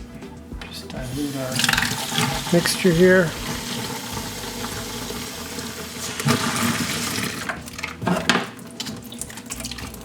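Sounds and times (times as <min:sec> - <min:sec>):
water running from a tap: 0:00.8 - 0:10.0.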